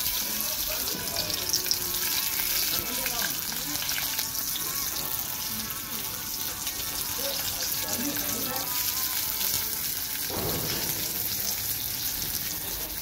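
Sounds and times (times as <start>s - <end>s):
garlic and chillies sizzling in oil: 0.0s - 13.0s.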